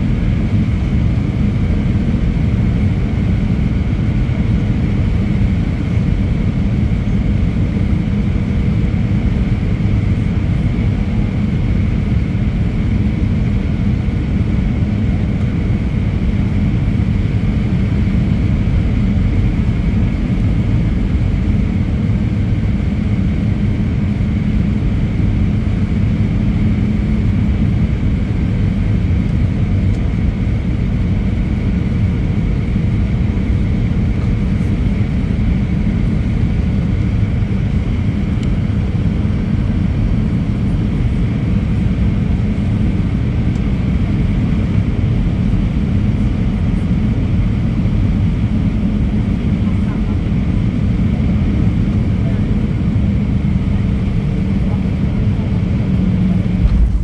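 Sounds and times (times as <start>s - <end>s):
aircraft cabin engine roar: 0.0s - 57.0s.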